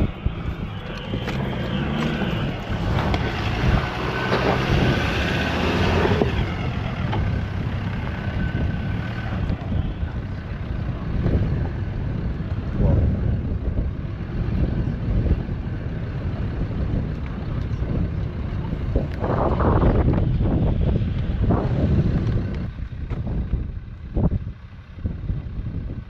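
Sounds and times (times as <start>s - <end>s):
off-road vehicle engine under load: 0.0s - 26.0s.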